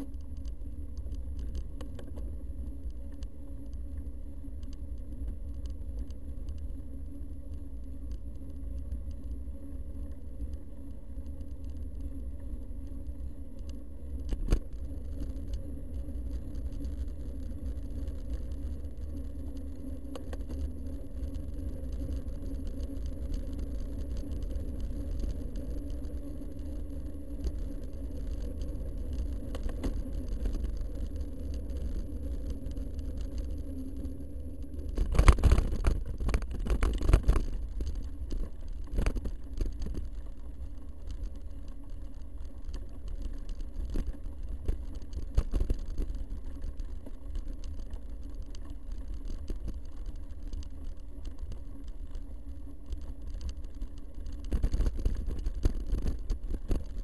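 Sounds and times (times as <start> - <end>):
faint high whine: 0.0 - 57.0
vehicle rumble on dirt track: 0.0 - 57.0.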